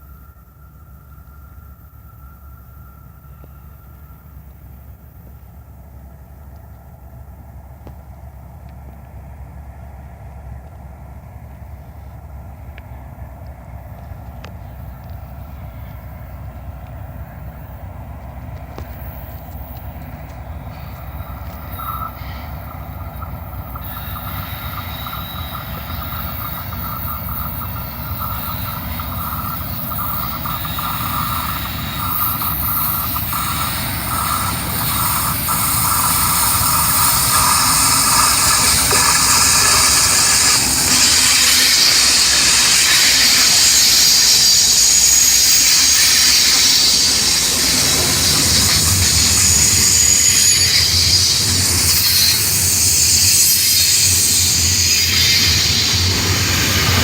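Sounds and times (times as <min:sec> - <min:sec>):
freight train running past: 0:00.0 - 0:57.0
wheels squealing on rails: 0:00.0 - 0:57.0.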